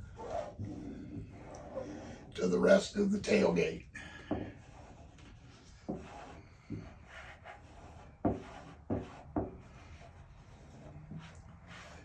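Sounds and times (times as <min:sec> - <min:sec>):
squeegee rubbing on vinyl: 0:00.0 - 0:02.3, 0:04.5 - 0:12.0.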